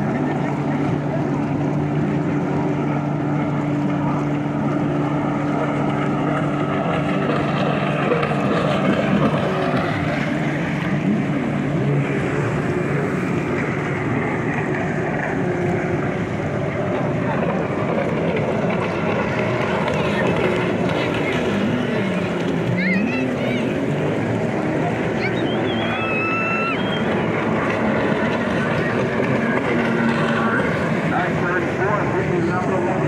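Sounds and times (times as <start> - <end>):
jet ski engines whining: 0.0 - 33.0
low engine hum: 0.0 - 33.0.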